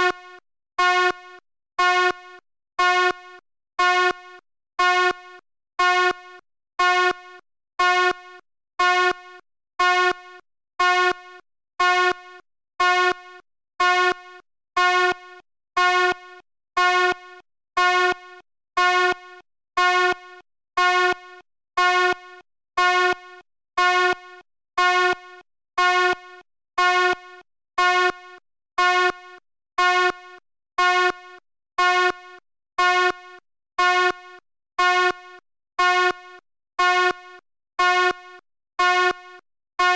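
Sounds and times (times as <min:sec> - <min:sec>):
fire alarm pulsing: 0:00.0 - 0:39.9.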